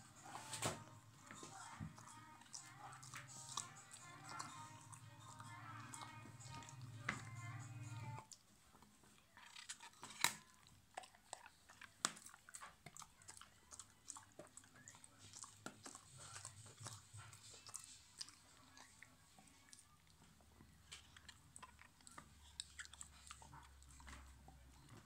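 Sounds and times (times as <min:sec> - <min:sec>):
dog gnawing chew stick: 0:00.1 - 0:25.0.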